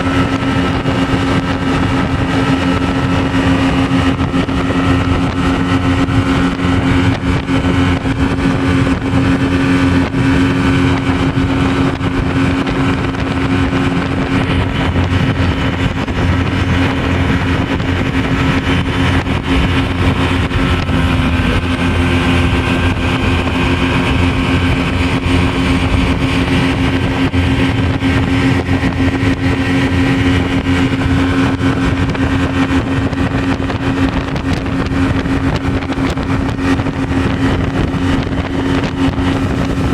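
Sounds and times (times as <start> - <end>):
speedboat engine running: 0.0 - 39.9.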